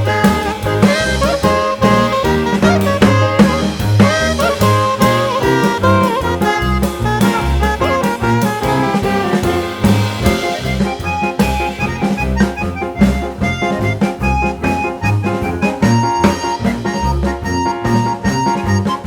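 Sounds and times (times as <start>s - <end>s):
upbeat jazz music: 0.0s - 19.0s.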